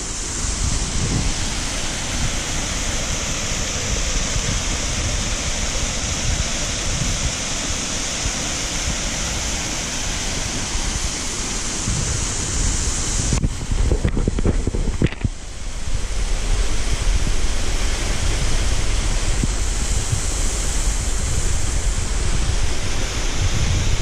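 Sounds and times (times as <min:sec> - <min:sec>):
waterfall rushing: 0:00.0 - 0:24.0
wind buffeting microphone: 0:00.0 - 0:24.0.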